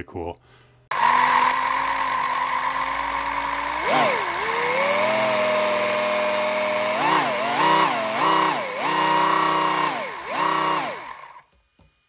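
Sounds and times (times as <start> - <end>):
compressor motor whining: 0.9 - 11.5.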